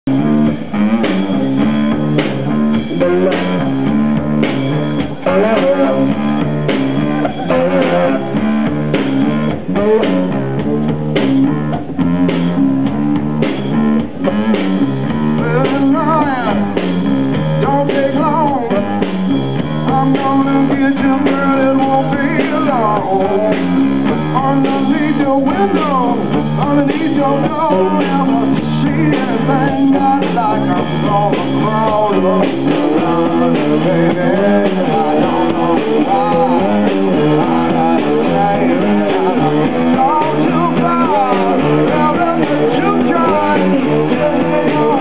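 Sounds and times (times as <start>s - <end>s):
blues-rock electric guitar: 0.0s - 45.0s
drum kit: 0.0s - 45.0s.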